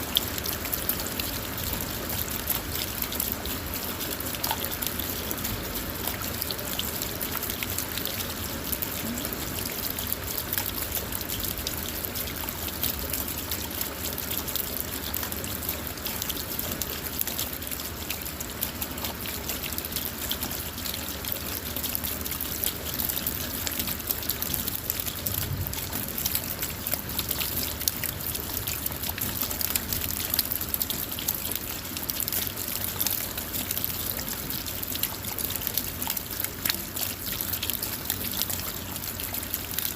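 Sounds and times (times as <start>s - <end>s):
rain hissing on a car: 0.0s - 39.9s
raindrops ticking on car body: 0.0s - 39.9s.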